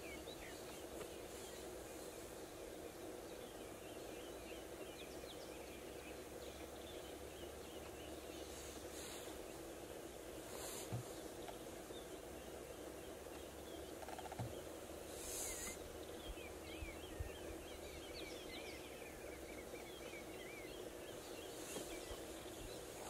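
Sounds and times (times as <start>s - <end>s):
small birds twittering: 0.0s - 23.0s.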